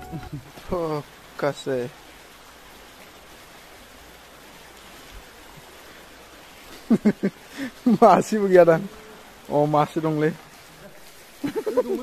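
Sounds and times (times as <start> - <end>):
flowing stream: 0.0 - 12.0.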